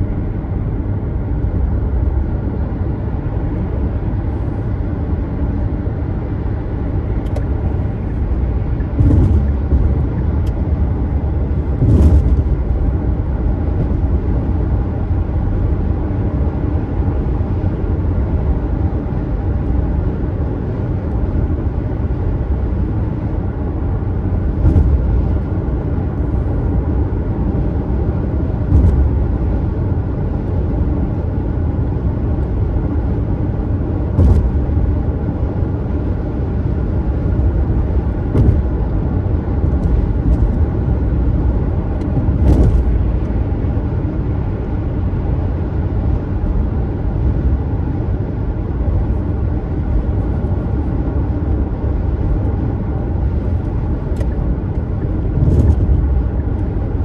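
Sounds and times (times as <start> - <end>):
car road and tyre noise: 0.0 - 57.0.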